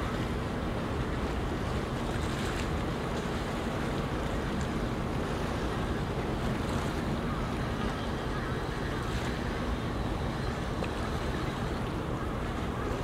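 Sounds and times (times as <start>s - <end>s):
water: 0.0s - 13.0s
wind: 0.0s - 13.0s.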